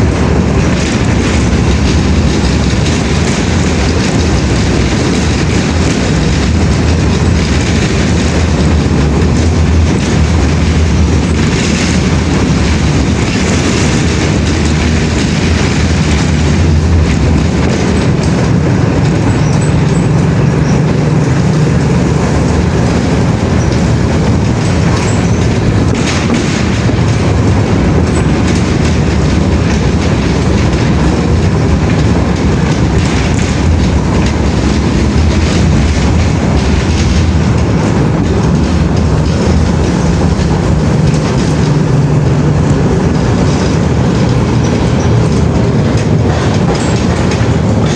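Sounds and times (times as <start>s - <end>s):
vehicle rumbling in motion: 0.0s - 47.9s.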